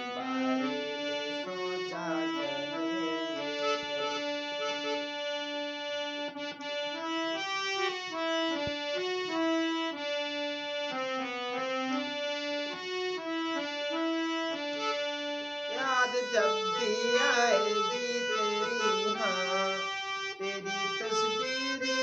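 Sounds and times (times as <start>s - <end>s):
reed-toned keyboard melody: 0.0s - 22.0s.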